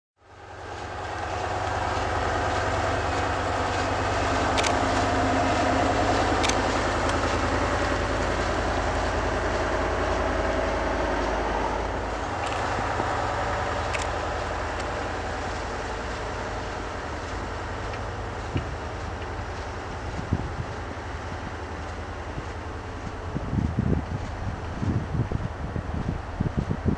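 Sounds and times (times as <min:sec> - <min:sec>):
truck diesel engine running: 0:00.2 - 0:26.9.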